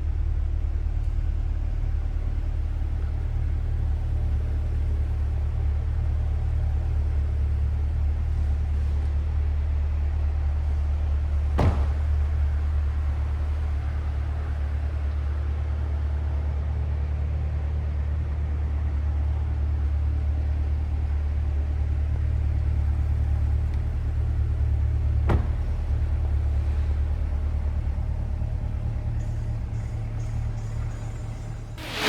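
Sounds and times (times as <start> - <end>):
car engine deep rumble: 0.0 - 16.6, 18.0 - 32.0.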